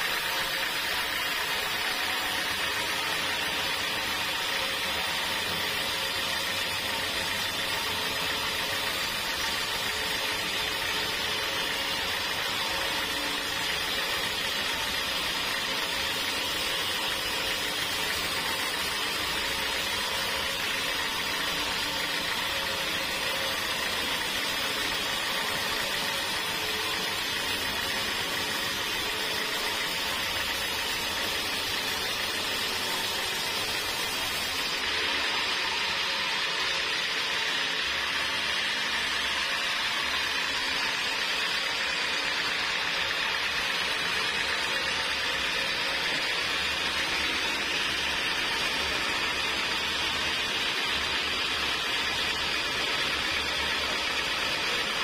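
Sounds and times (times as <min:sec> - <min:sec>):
band saw cutting log: 0:00.0 - 0:55.0
sawmill motor running: 0:00.0 - 0:55.0.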